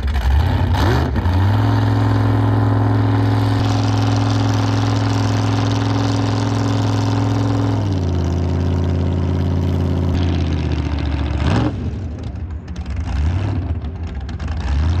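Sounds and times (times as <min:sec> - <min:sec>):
jet boat engine running: 0:00.0 - 0:13.2.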